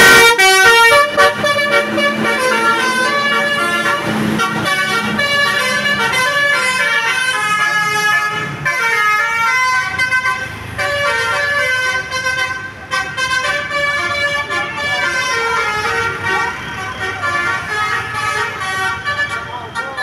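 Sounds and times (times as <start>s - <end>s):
musical bus horn playing tune: 0.0s - 20.0s.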